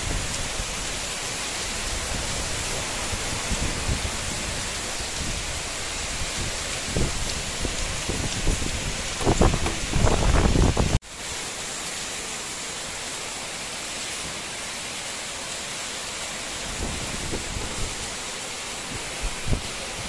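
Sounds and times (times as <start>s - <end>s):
heavy rain on concrete: 0.0s - 20.0s.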